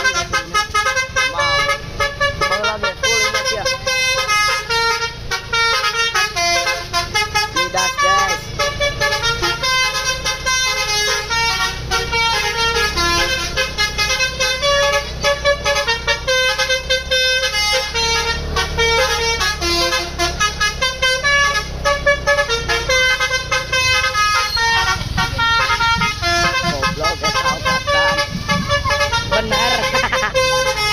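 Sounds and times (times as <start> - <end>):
bus engine running: 0.0 - 30.9
multi-tone bus horn melody: 0.0 - 30.9.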